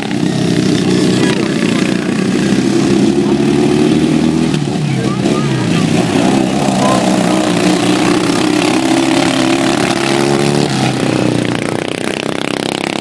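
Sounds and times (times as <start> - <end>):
lawn mower engines passing: 0.0 - 13.0.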